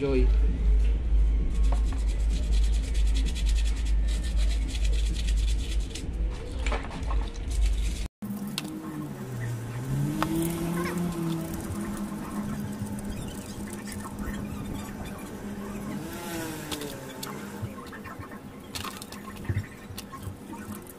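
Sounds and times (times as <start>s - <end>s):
low tone rising and falling: 0.0s - 7.1s, 8.2s - 20.8s
heavy low rumble: 0.0s - 20.8s.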